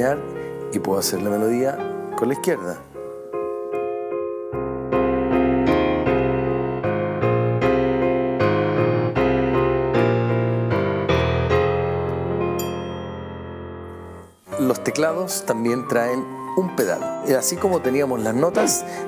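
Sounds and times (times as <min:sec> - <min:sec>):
electronic keyboard piano melody: 0:00.0 - 0:19.0.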